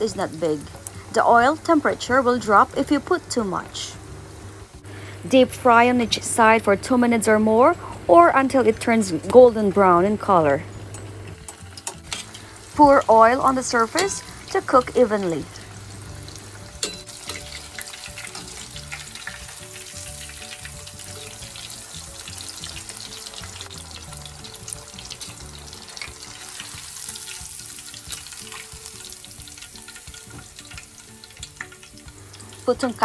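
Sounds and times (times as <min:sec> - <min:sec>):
pork cutlet sizzling in hot oil: 0:00.0 - 0:06.2, 0:10.3 - 0:33.0.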